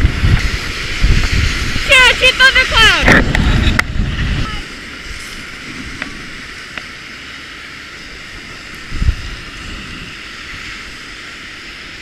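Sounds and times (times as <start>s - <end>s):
skis sliding over packed snow: 0.0s - 12.0s
wind rumbling on microphone: 0.0s - 12.0s.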